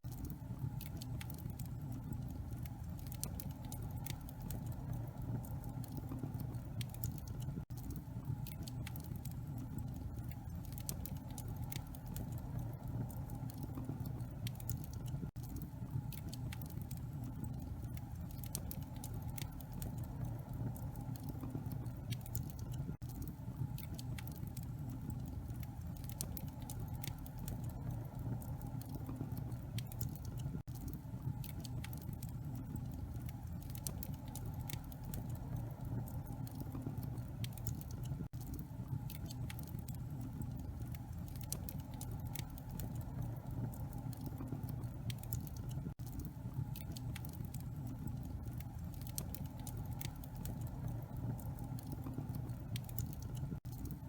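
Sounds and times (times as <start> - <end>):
steady low rumble: 0.0 - 54.0
wood fire crackling: 0.0 - 54.0.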